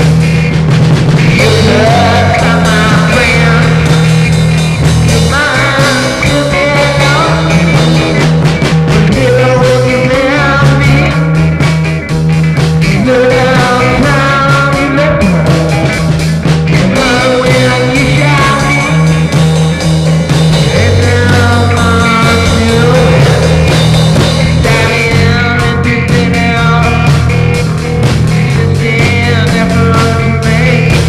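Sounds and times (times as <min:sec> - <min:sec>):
psychedelic rock instrumental: 0:00.0 - 0:31.0.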